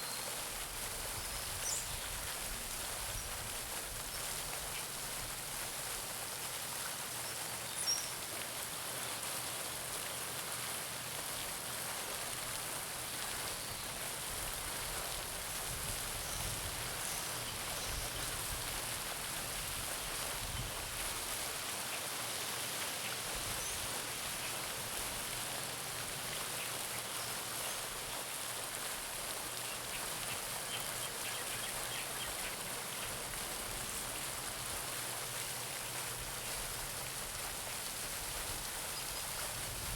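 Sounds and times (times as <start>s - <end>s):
fountain splashing: 0.0s - 39.9s.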